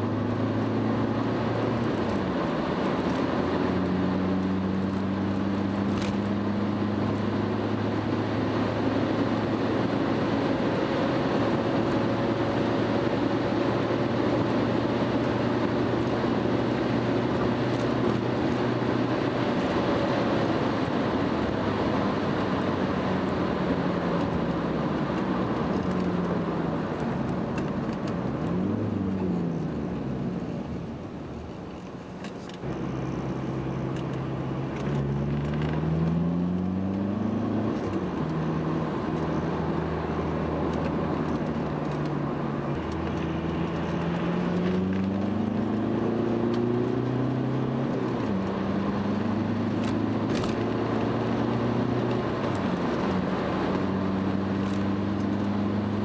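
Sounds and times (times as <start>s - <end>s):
car engine: 0.0s - 56.0s.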